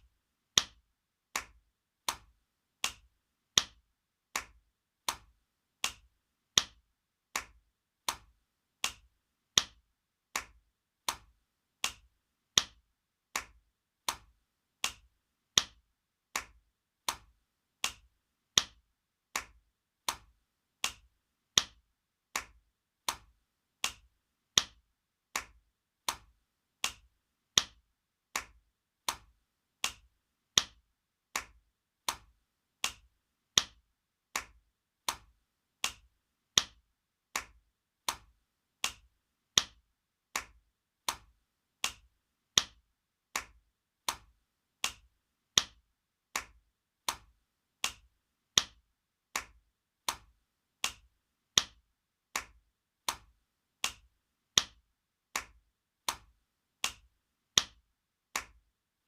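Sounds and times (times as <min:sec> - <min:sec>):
hand slapping skin: 0:00.6 - 0:57.8.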